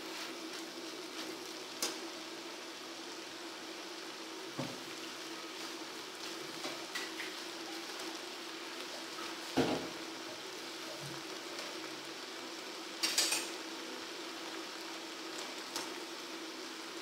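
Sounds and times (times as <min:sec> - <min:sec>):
corn kernels sizzling in a pan: 0:00.0 - 0:17.0.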